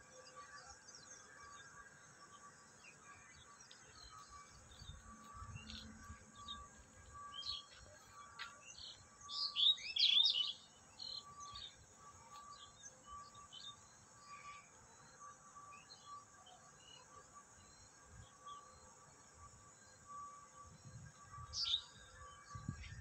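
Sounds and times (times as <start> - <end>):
small birds chirping: 0.0 - 18.9, 19.8 - 23.0.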